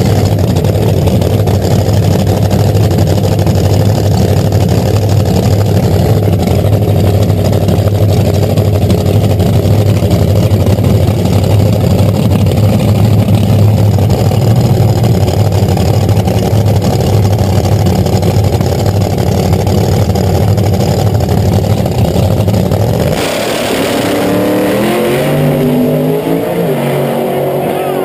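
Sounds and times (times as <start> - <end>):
car accelerating: 0.0 - 28.0
race car engines rumbling: 0.0 - 28.0.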